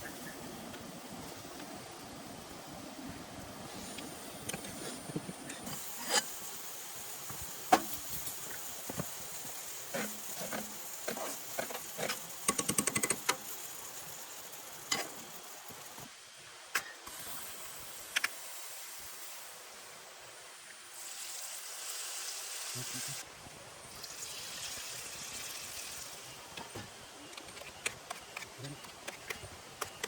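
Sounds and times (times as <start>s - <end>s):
rain hiss: 0.0s - 29.9s.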